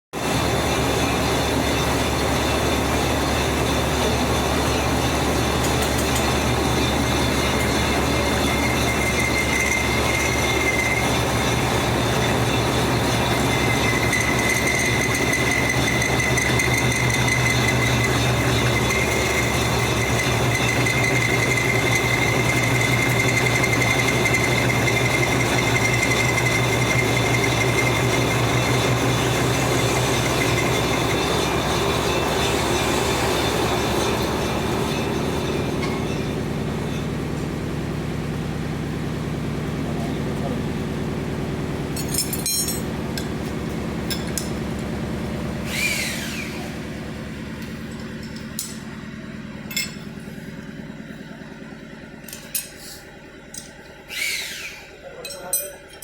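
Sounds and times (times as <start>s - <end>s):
high whine of metal cutting: 0.2s - 37.8s, 38.4s - 50.1s, 53.6s - 56.0s
lathe machine hum: 0.2s - 55.1s.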